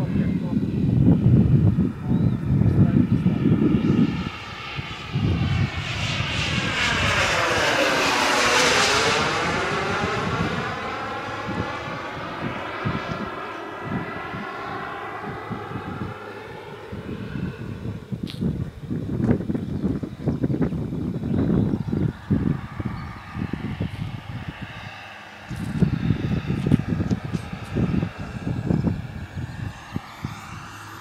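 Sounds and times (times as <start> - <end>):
jet flying past: 0.0 - 31.0.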